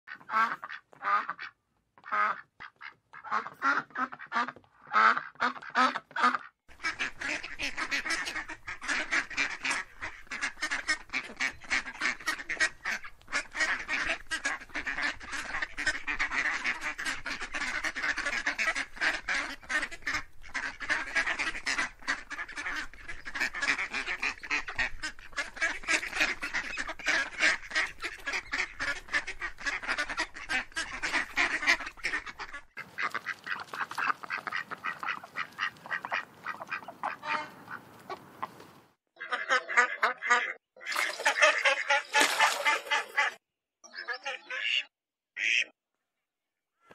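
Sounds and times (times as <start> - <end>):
ducks quacking: 0.1 - 45.7.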